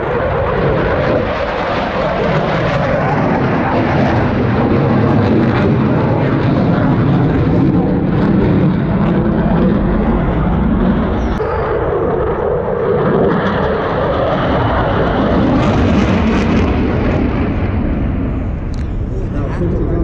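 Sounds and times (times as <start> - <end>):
jet fighter flying overhead: 0.0 - 20.0.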